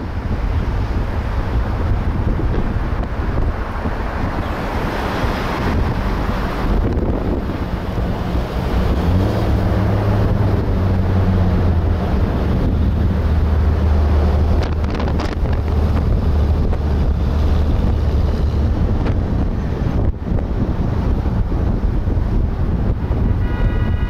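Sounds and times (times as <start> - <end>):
car engine hum: 0.0 - 24.0
tyres on road: 0.0 - 24.0
wind buffeting microphone: 0.0 - 24.0.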